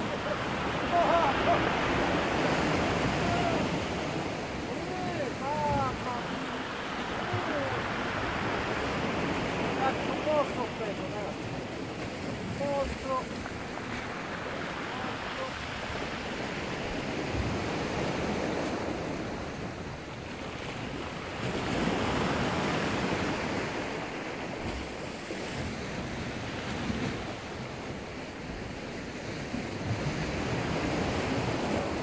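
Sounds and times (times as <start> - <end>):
rough sea against rocky shore: 0.0 - 32.0.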